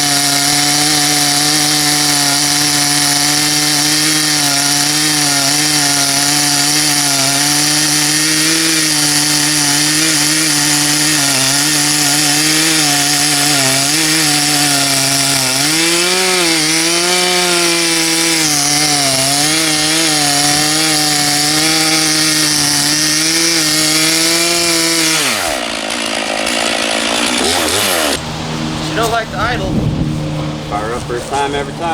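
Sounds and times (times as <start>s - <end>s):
chainsaw cutting through a log: 0.0s - 29.8s.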